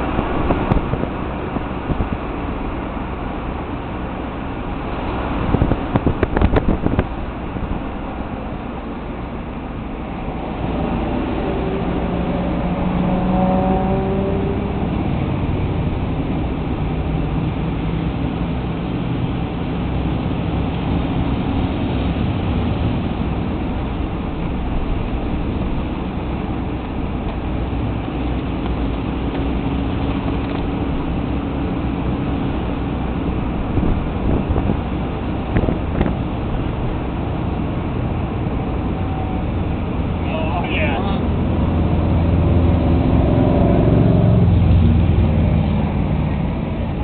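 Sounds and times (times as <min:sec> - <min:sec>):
road noise: 0:00.0 - 0:47.0.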